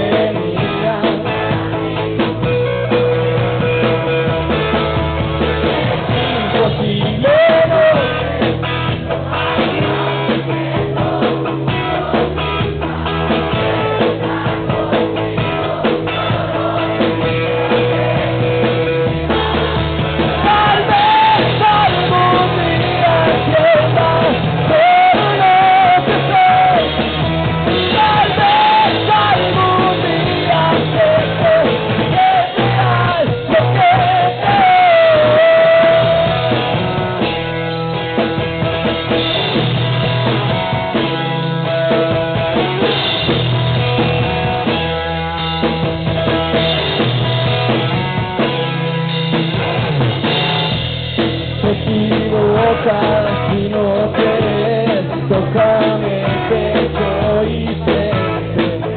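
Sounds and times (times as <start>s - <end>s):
rock band playing live: 0.0s - 58.9s
wavering melodic lead line: 0.0s - 58.9s.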